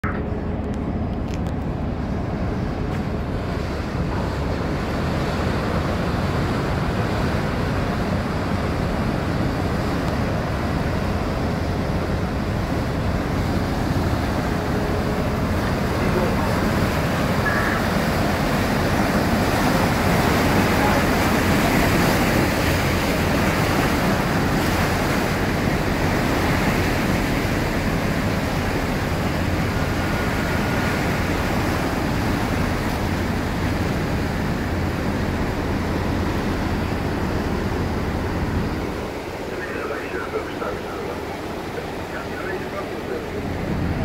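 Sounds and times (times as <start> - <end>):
churning turbulent water: 0.0 - 44.0.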